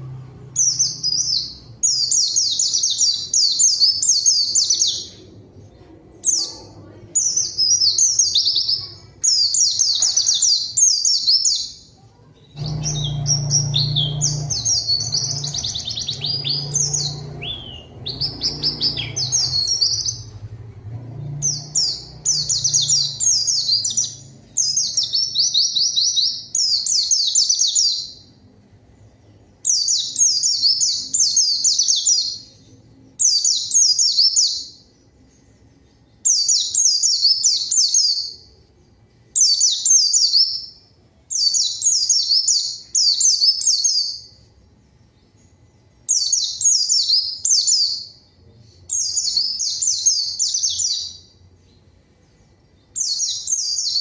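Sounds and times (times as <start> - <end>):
bird twittering song: 0.4 - 54.0.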